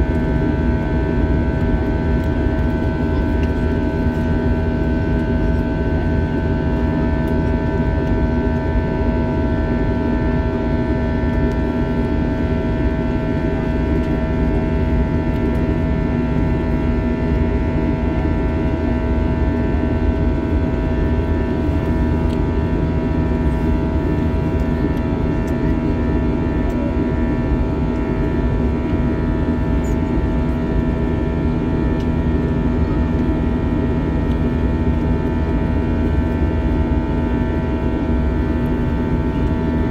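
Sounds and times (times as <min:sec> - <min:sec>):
jet engine and airflow roar: 0:00.0 - 0:39.9.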